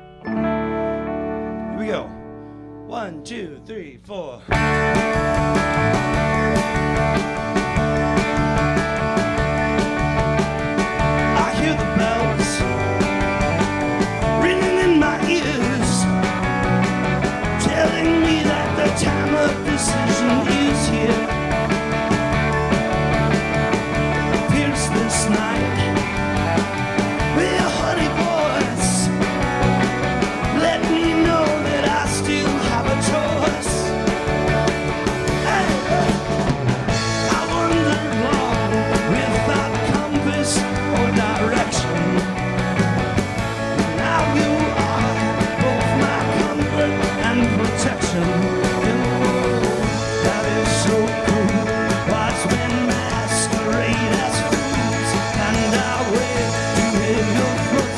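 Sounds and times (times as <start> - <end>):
rock band playing live: 0.0 - 57.9.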